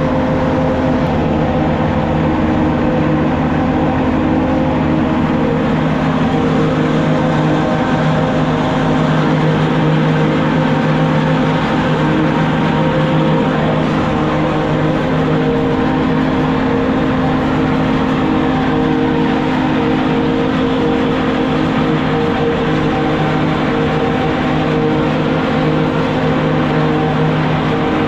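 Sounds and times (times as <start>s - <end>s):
cutter rushing noise: 0.0s - 28.0s
tractor engine drone: 0.0s - 28.0s.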